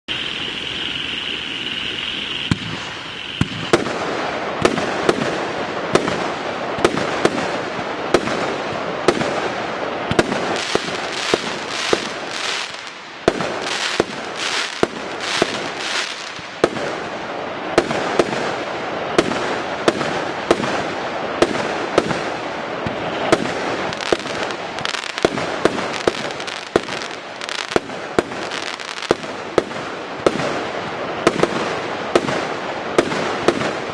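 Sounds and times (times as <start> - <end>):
crackling fireworks stars: 0.0 - 33.9
steady high hiss: 0.0 - 33.9
fireworks bangs: 0.1 - 33.9.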